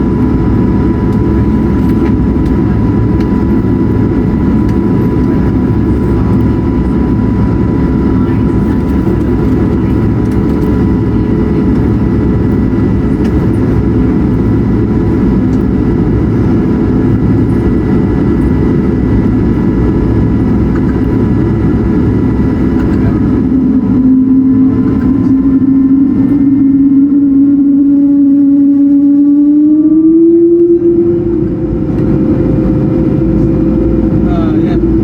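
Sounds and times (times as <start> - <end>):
engine hum rising in pitch: 0.0 - 35.0
jet engines rumbling in cabin: 0.0 - 35.0.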